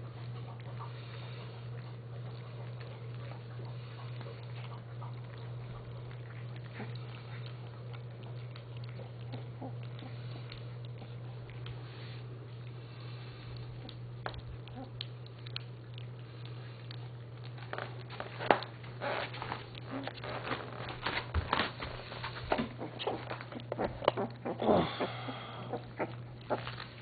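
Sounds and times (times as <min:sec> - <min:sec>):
puppies chewing and smacking: 0:00.0 - 0:27.0
steady low hum: 0:00.0 - 0:27.0.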